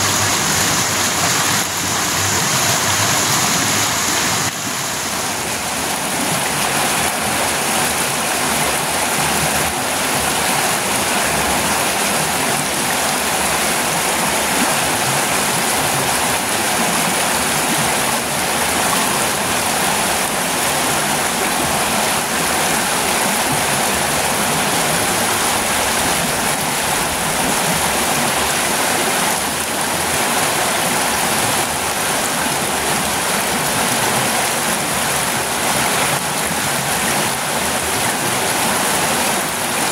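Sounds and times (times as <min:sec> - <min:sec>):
waterfall rushing into pool: 0:00.0 - 0:39.9.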